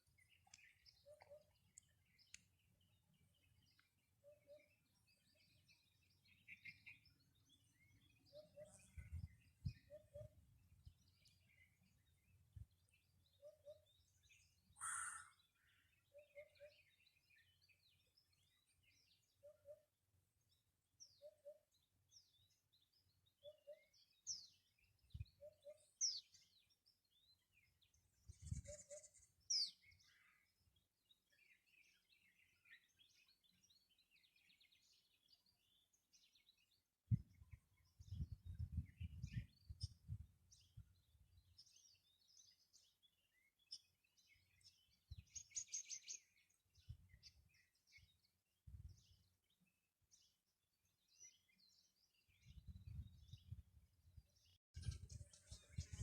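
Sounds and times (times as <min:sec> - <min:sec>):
birds chirping: 0:00.0 - 0:19.7, 0:20.4 - 0:53.6.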